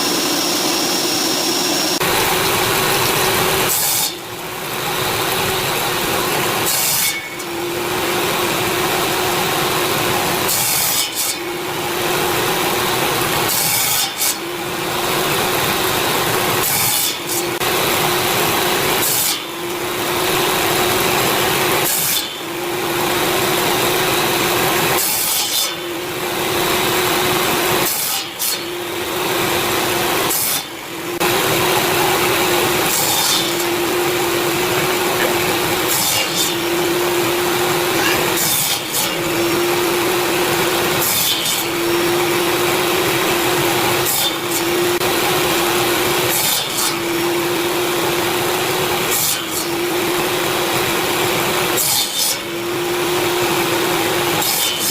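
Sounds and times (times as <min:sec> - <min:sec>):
power tool cutting wood: 0:00.0 - 0:54.9.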